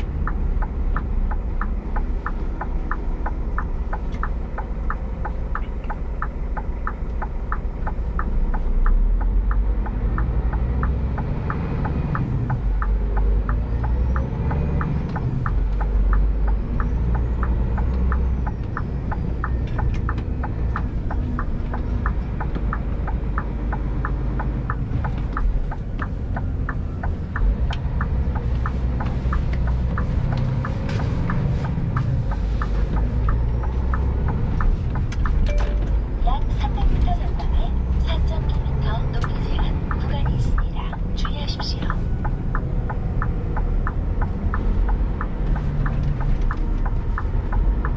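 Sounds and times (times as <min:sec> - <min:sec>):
truck diesel engine rumbling: 0:00.0 - 0:47.9
fast even ticking: 0:00.1 - 0:47.9.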